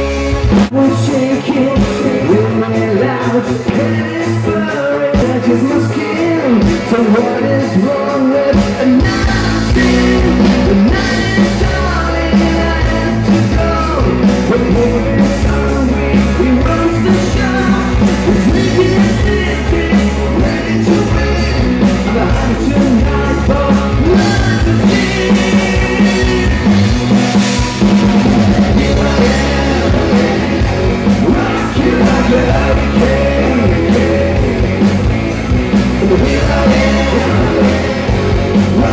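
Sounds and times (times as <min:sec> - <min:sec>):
man singing: 0:00.0 - 0:27.0, 0:28.3 - 0:35.1, 0:35.7 - 0:38.9
live rock band playing: 0:00.0 - 0:38.9.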